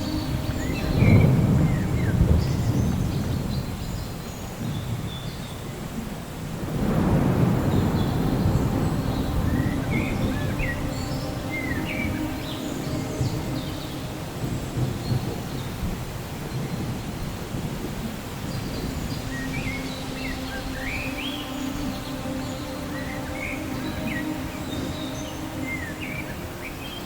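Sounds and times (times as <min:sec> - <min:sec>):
thunder rumbling: 0:00.0 - 0:05.1, 0:06.1 - 0:26.5
faint rain hiss: 0:00.0 - 0:27.0.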